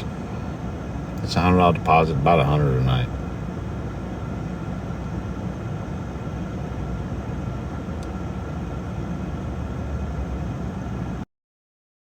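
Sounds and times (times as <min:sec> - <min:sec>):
low background rumble: 0:00.0 - 0:11.2.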